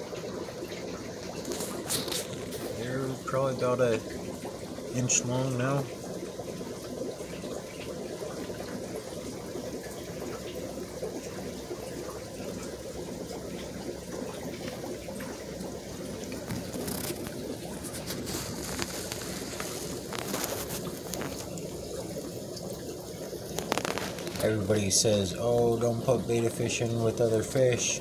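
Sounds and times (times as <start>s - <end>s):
aquarium water bubbling: 0.0s - 28.0s.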